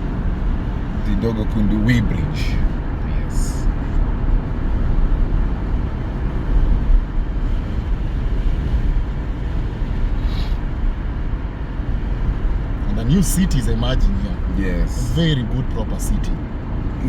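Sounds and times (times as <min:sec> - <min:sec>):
road and wind noise inside car: 0:00.0 - 0:17.0.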